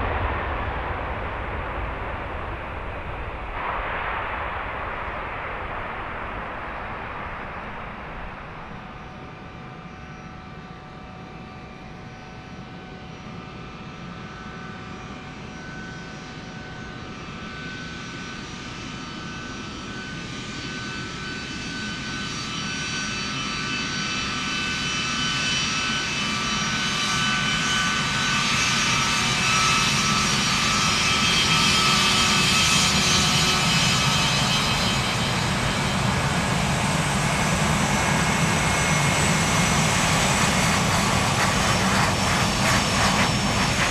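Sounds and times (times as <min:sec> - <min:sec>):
jet engine whining and rushing: 0:00.0 - 0:43.9.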